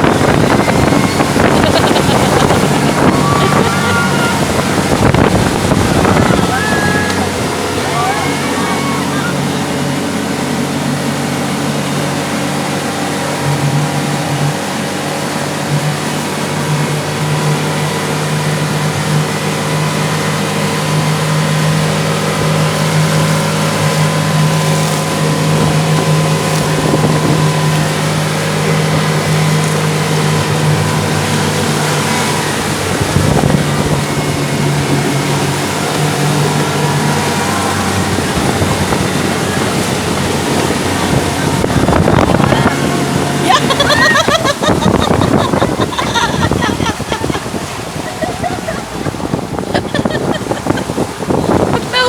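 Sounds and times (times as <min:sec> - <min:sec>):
wind on microphone: 0:00.0 - 0:14.8, 0:15.4 - 0:52.0
motorboat engine running: 0:00.0 - 0:52.0
rushing water: 0:00.0 - 0:52.0.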